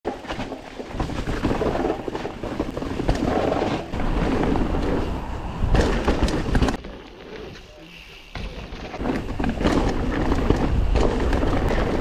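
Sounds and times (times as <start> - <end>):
bike rattling: 0.1 - 12.0
bike tyres on loose dirt: 0.1 - 12.0.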